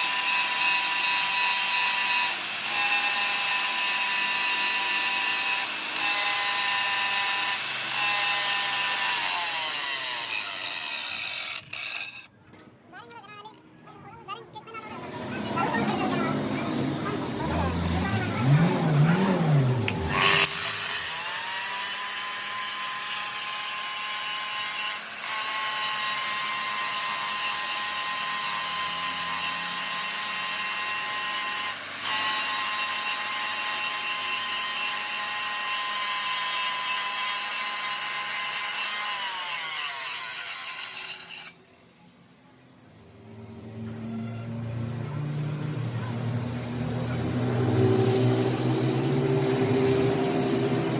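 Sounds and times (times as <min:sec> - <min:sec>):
power tool whining: 0:00.0 - 0:12.3, 0:14.8 - 0:42.2, 0:42.9 - 0:50.9.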